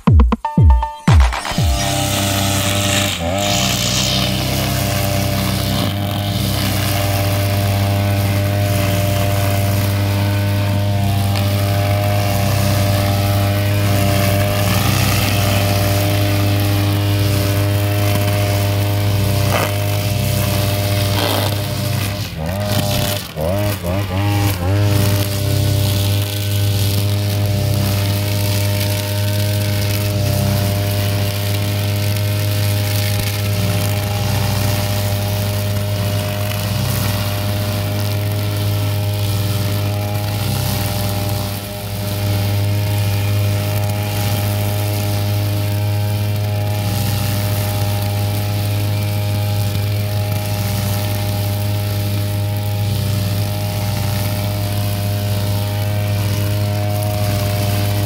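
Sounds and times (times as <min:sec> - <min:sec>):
brush cutter engine running: 0:01.3 - 0:58.0.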